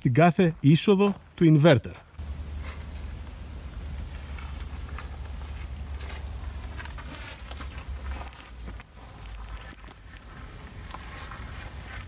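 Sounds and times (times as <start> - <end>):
footsteps through tall grass: 2.2 - 12.0.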